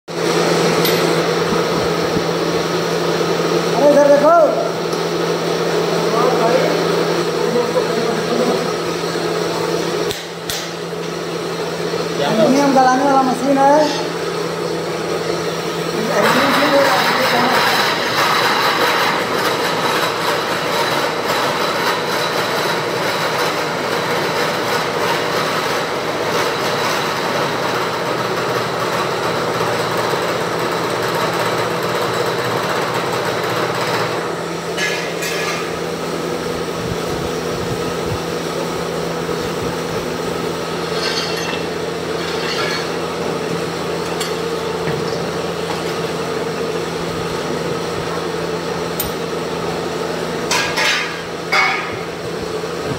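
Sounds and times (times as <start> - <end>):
machine hum: 0.1 - 52.9.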